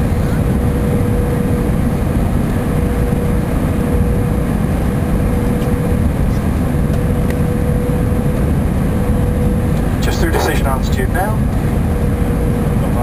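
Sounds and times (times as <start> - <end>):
airliner engine and airflow rush: 0.0 - 13.0
mid-pitched hum: 0.0 - 13.0.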